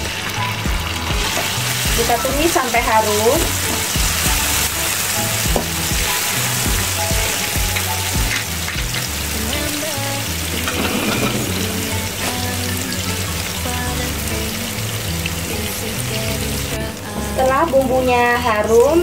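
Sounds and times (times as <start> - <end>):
paste sizzling in hot oil: 0.0 - 18.0.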